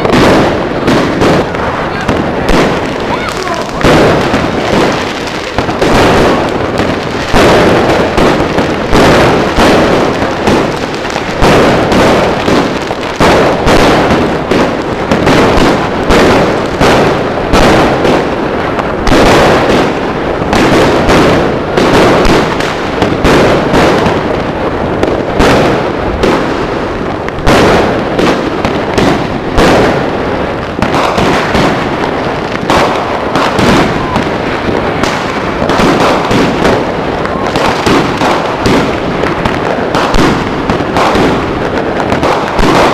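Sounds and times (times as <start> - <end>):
fireworks fizzing and crackling: 0.0 - 42.9
fireworks launching and bursting: 0.0 - 42.9.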